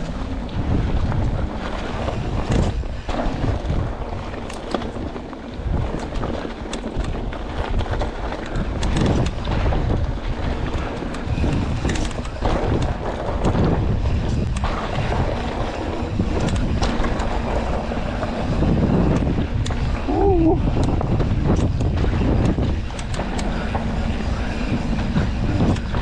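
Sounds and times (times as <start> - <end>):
bike tyres on dirt trail: 0.0 - 26.0
clicks and rattles from bike: 0.0 - 26.0
wind buffeting microphone: 0.0 - 26.0.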